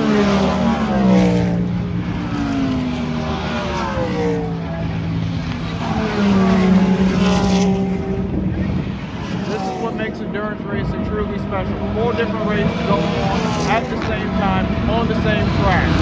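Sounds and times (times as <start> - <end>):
race cars passing at speed: 0.0 - 16.0.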